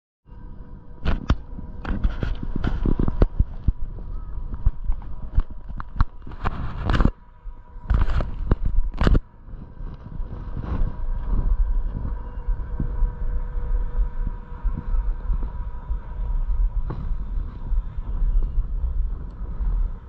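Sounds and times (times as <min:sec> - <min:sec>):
low rumble: 0:00.2 - 0:20.0
faint steady hum: 0:00.3 - 0:20.0
wind buffeting microphone: 0:00.3 - 0:20.0.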